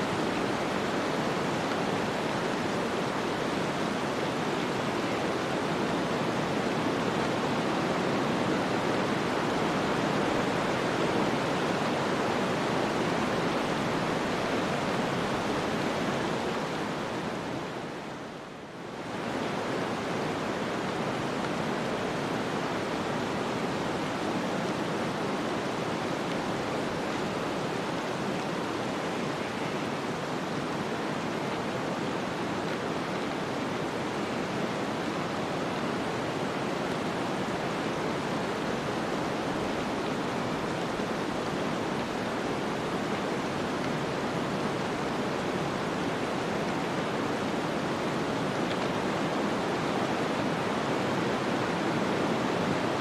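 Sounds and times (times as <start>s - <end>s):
snowstorm wind hiss: 0.0s - 53.0s.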